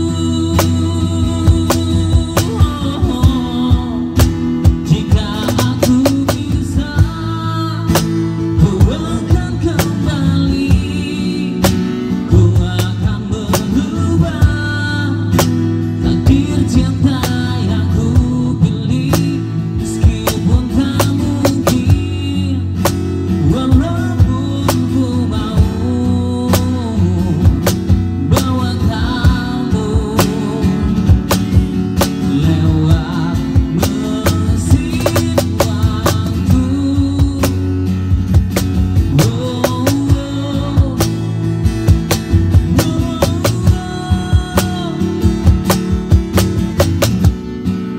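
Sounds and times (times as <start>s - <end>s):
live band music: 0.0s - 47.9s.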